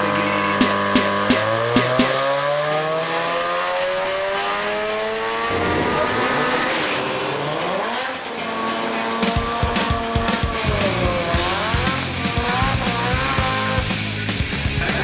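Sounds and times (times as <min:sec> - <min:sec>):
rotary engine accelerating: 0:00.0 - 0:15.0.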